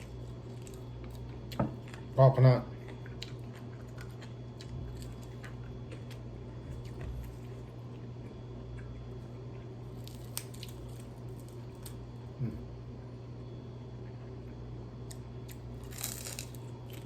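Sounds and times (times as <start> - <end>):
person chewing crispy chicken: 0.0 - 12.0, 15.0 - 17.0
steady low hum: 0.0 - 17.0.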